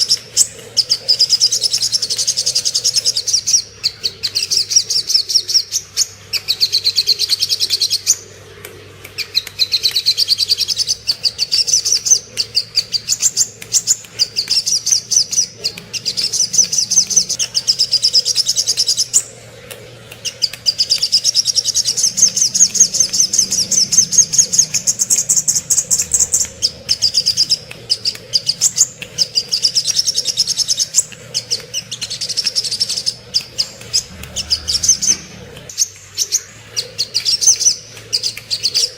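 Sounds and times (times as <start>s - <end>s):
bird song of sharp high chirps: 0.0s - 8.2s, 9.2s - 19.4s, 20.1s - 38.9s
faint steady hum: 0.0s - 38.9s.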